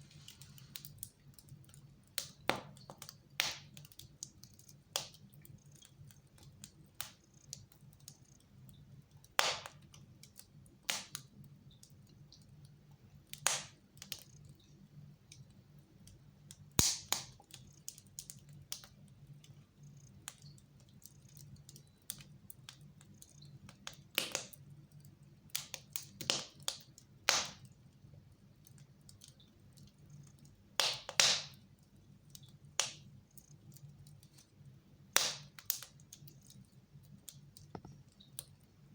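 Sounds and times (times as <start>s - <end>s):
fireplace fire crackling: 0.0s - 38.9s.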